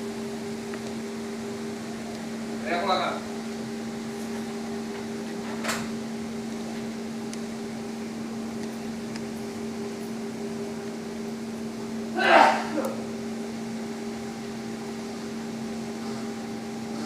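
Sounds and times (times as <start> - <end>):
low electric hum: 0.0 - 17.0.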